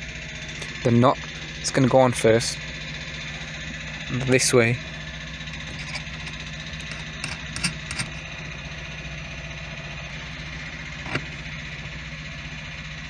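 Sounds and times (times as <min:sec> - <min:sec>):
machinery engines droning: 0:00.0 - 0:13.0.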